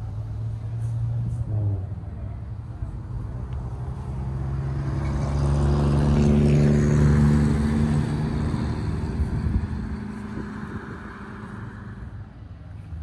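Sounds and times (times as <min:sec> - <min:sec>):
car driving past: 0:00.0 - 0:12.3.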